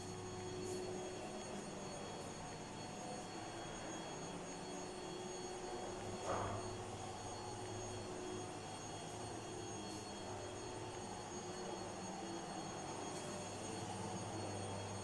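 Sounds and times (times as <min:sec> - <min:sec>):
faint steady tones: 0:00.0 - 0:15.0.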